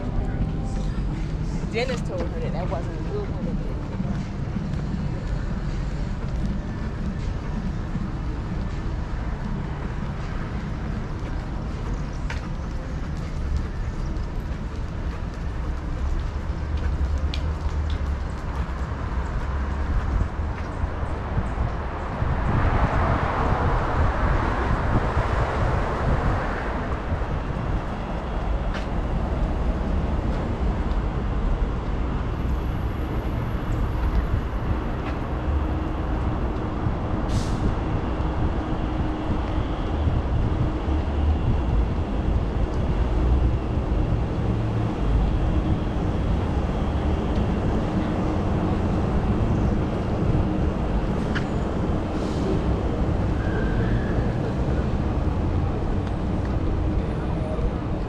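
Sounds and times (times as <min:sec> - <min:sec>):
low wind rumble: 0:00.0 - 0:58.0.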